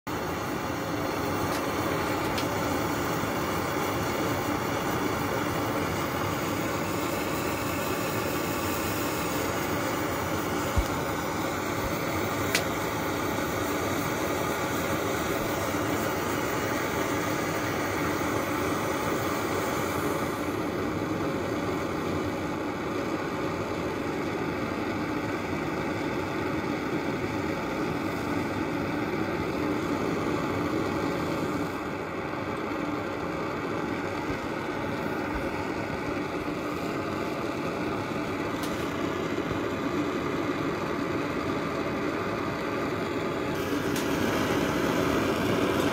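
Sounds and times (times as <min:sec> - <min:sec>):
pressure stove burner rushing: 0:00.1 - 0:45.9.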